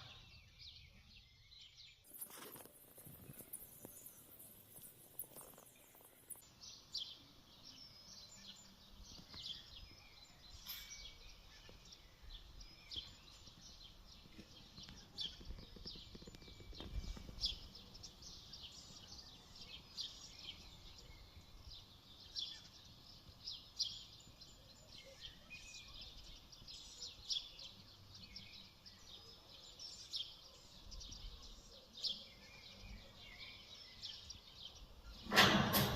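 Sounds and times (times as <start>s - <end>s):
birds chirping: 0.0s - 35.9s.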